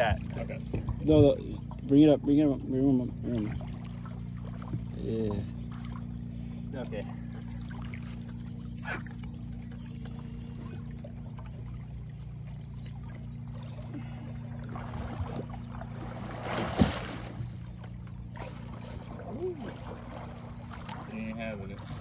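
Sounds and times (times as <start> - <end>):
steady low hum: 0.0 - 22.0
fish splashing in water: 3.3 - 22.0.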